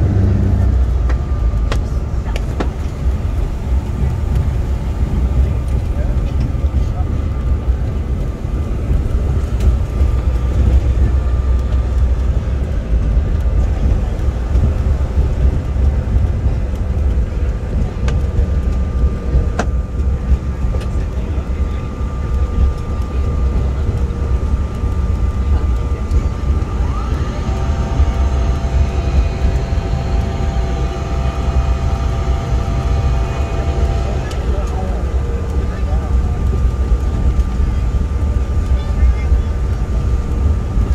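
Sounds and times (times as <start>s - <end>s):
airliner cabin rumble: 0.0s - 40.9s
jet engine whine: 0.0s - 40.9s.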